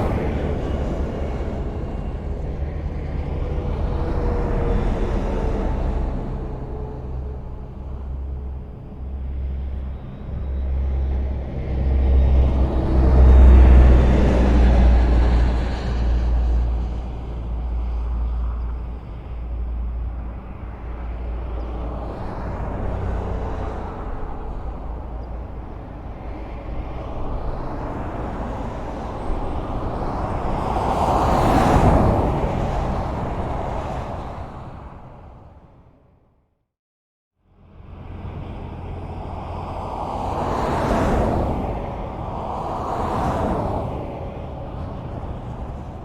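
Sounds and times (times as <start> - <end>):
vehicle rumbling past: 0.0 - 36.2, 37.5 - 46.0
highway traffic noise: 0.0 - 36.5, 37.4 - 46.0.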